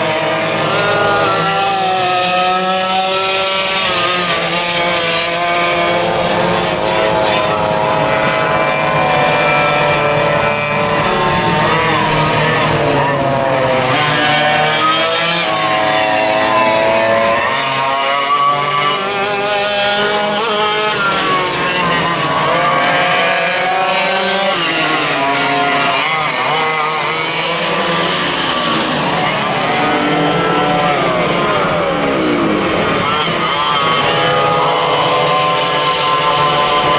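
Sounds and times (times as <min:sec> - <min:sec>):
racing kart engines at high revs: 0:00.0 - 0:36.9.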